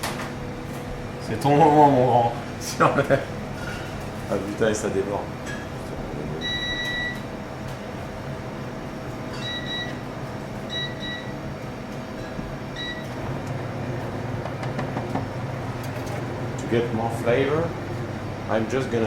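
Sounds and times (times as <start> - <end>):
kitchen machinery hum: 0.0 - 19.0.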